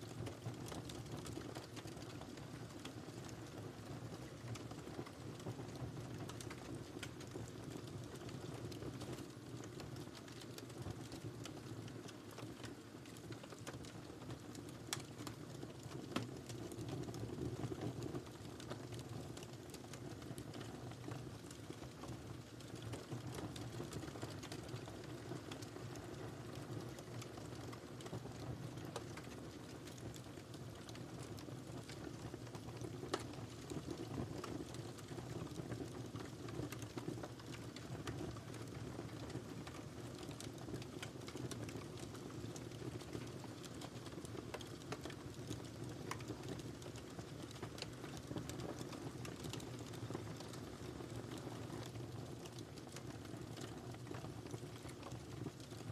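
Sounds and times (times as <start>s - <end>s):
fire crackles and pops: 0.0s - 55.9s
low rumble of flames: 0.1s - 55.9s.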